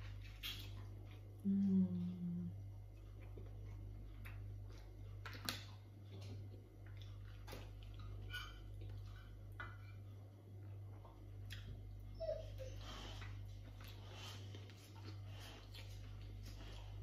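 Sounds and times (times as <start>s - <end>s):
mouth chewing with lip smacks: 0.0s - 9.9s, 10.6s - 12.0s, 13.1s - 17.0s
steady low hum: 0.0s - 17.0s.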